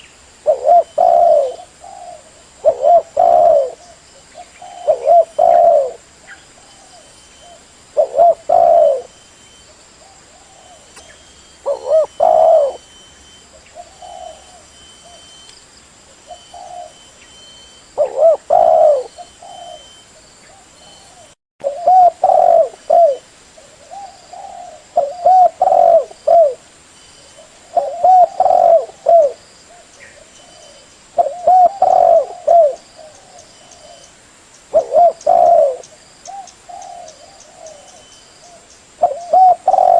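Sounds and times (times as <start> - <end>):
dove cooing: 0.0 - 15.4, 16.2 - 26.6, 27.2 - 34.1, 34.7 - 39.9.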